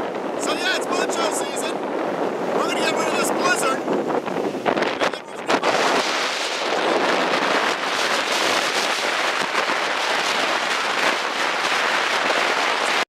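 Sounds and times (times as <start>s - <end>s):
blizzard wind on microphone: 0.0s - 13.0s.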